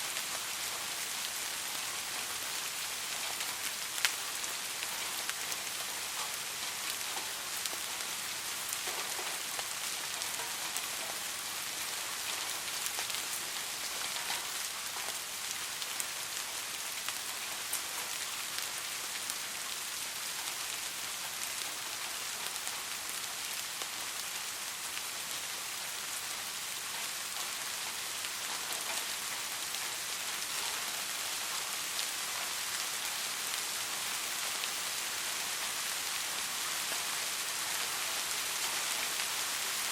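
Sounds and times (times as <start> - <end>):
soft rain: 0.0 - 39.9.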